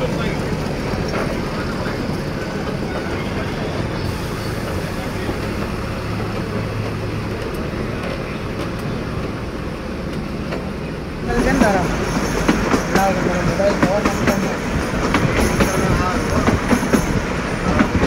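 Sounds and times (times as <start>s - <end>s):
diesel locomotive hum: 0.0s - 18.0s
train wheels on rails: 0.0s - 18.0s.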